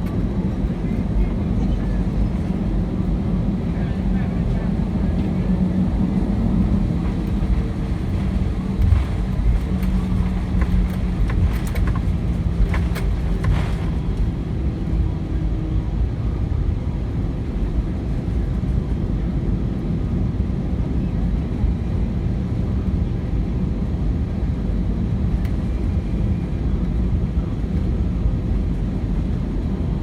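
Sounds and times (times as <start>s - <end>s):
jet engines idling rumble: 0.0s - 30.0s.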